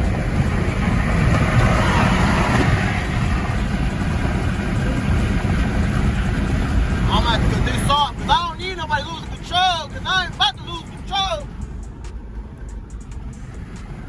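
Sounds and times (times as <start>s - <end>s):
rush of noise: 0.0s - 13.3s
car engines rumbling: 0.0s - 14.0s.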